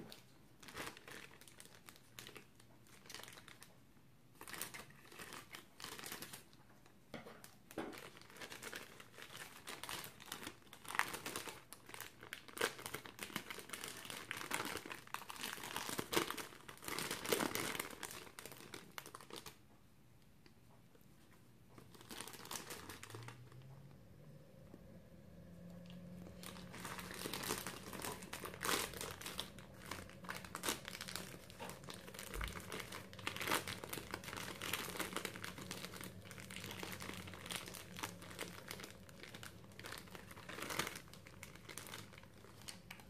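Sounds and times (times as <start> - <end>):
plastic bag crinkling: 0.0 - 19.6, 21.7 - 24.0, 25.3 - 43.0.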